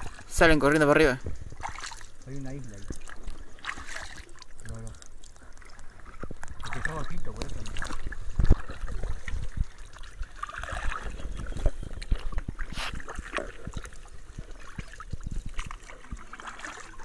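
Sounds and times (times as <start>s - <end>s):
paddle splashing in water: 0.0s - 0.5s, 1.2s - 17.0s.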